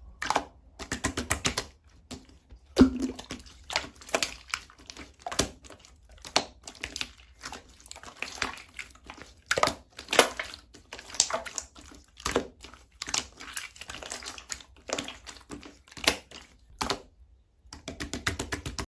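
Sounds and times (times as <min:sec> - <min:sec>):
hands squishing sticky slime: 0:00.0 - 0:18.9.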